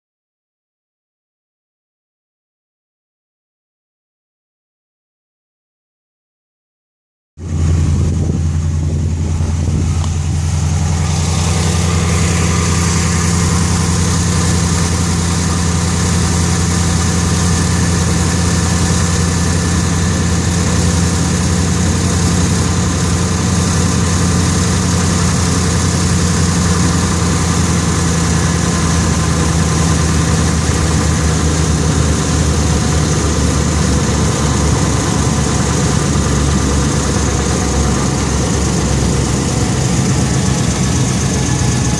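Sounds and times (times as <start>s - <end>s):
engine idling: 7.4s - 41.9s
higher-pitched engine noise: 7.4s - 41.9s.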